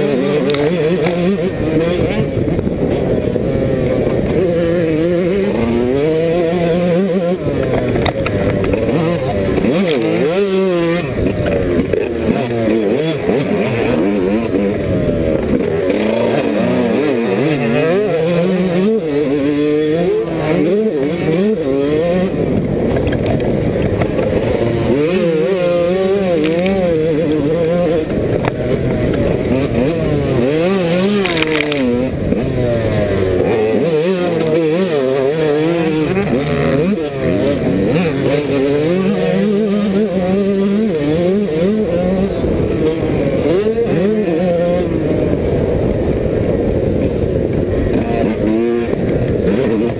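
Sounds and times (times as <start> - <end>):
motocross engine revving: 0.0 - 49.9.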